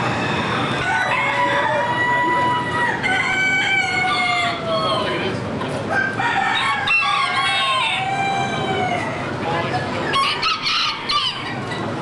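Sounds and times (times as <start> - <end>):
chickens calling: 0.0 - 12.0
roosters crowing: 0.0 - 12.0.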